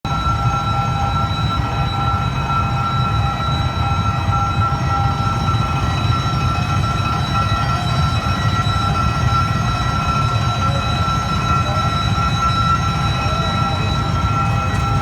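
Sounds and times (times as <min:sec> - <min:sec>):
high-pitched whine: 0:00.1 - 0:15.0
train low rumble: 0:00.1 - 0:15.0.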